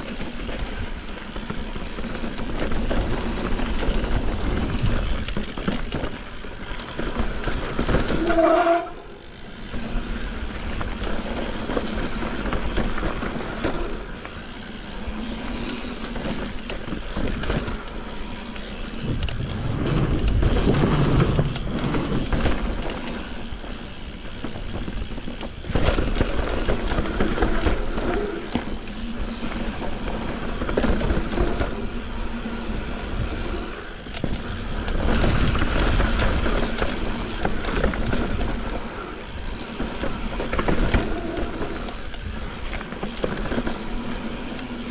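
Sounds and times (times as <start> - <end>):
bike rattling: 0.0 - 44.9
tyres rolling over dirt and stones: 0.0 - 44.9.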